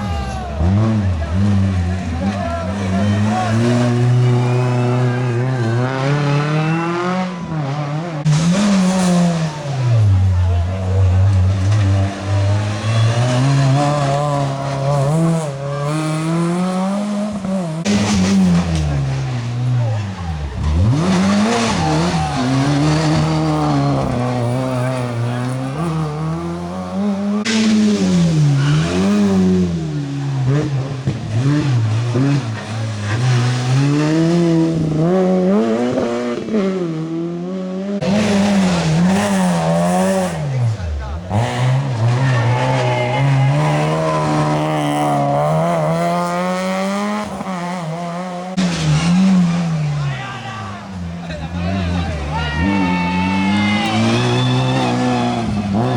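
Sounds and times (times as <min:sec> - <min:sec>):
rally car engine at full throttle: 0:00.0 - 0:55.9.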